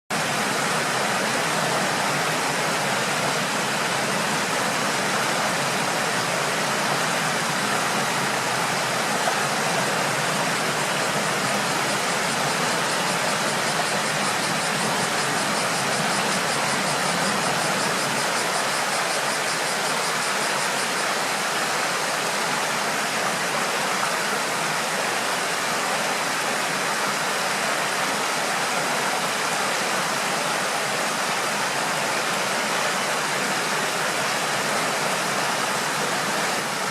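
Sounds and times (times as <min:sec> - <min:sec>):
river water flowing: 0:00.1 - 0:36.9.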